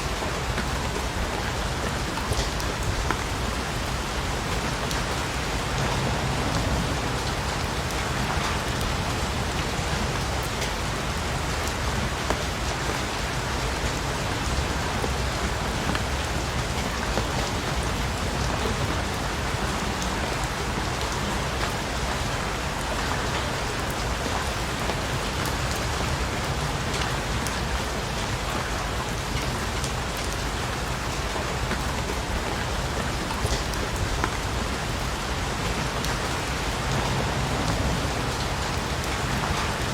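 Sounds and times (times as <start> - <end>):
rain falling: 0.0 - 39.9
raindrops pattering: 0.0 - 39.9.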